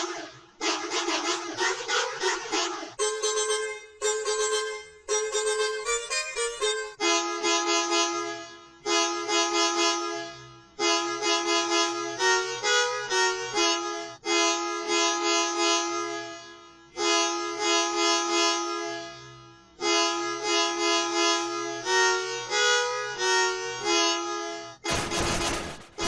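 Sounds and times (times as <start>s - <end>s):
musical bus horn tune: 0.0s - 24.9s.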